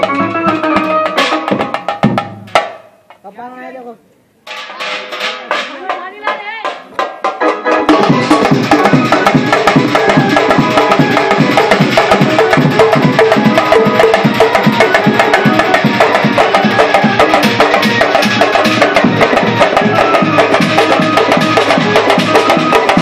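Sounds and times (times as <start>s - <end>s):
drums beaten with sticks: 0.0s - 3.4s, 4.4s - 23.0s
brass plates struck: 4.4s - 23.0s.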